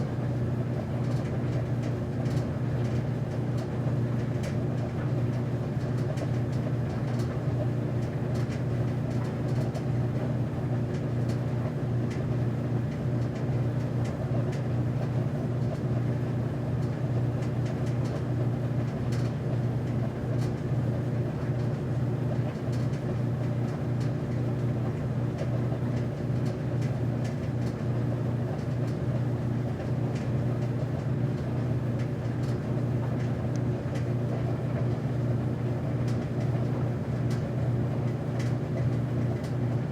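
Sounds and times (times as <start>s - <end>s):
washer-dryer motor hum: 0.0s - 39.9s.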